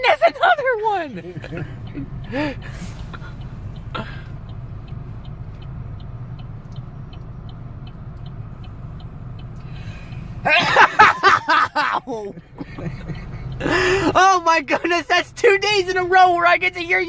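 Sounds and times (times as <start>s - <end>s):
car road and engine rumble: 0.0s - 17.0s
faint regular ticking: 0.9s - 17.0s.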